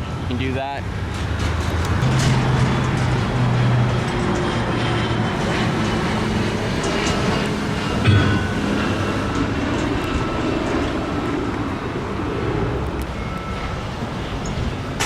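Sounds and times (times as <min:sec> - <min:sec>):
heavy vehicle engine hum: 0:00.0 - 0:15.0
road traffic noise: 0:00.0 - 0:15.0.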